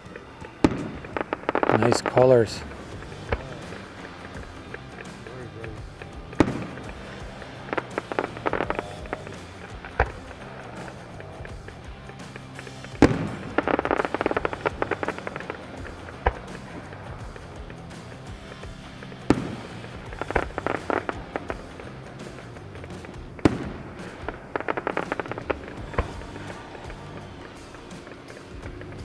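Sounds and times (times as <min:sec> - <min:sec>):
firework crackling: 0:00.0 - 0:29.0
firework shell bursts: 0:00.0 - 0:29.0
music playing: 0:00.0 - 0:29.0.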